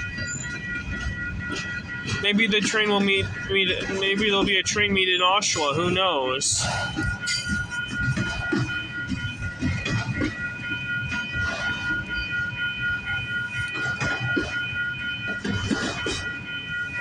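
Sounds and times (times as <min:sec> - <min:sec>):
high ringing tone: 0:00.0 - 0:17.0.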